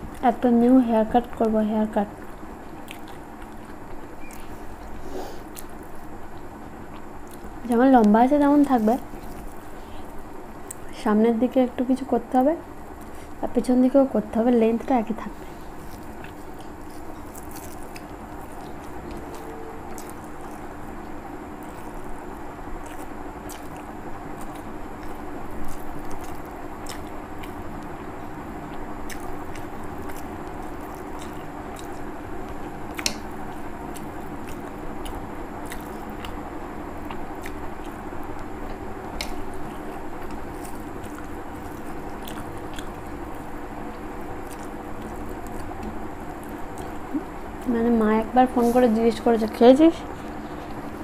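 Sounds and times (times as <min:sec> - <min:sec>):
fingers mixing food squishes: 0:00.0 - 0:10.9, 0:15.1 - 0:51.0
steady low hum: 0:00.0 - 0:51.0
person chewing: 0:02.2 - 0:10.9, 0:15.4 - 0:47.7.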